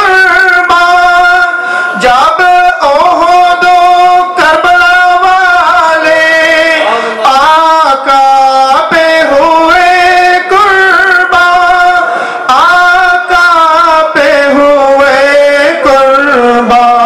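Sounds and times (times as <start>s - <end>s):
man singing through a microphone: 0.0s - 17.0s.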